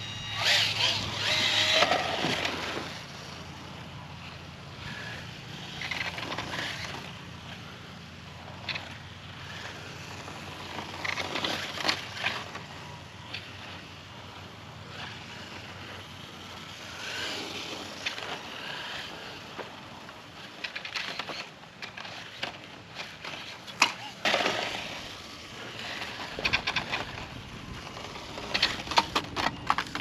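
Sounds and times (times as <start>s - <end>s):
toy motorcycle rolling hiss: 0.0s - 30.0s.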